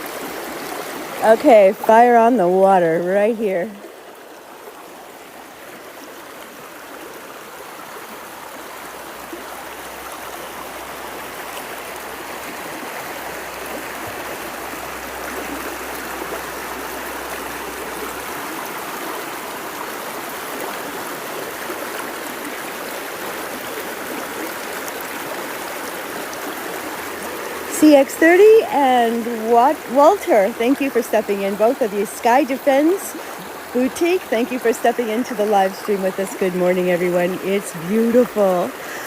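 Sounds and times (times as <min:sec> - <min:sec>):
river water flowing: 0:00.0 - 0:39.0.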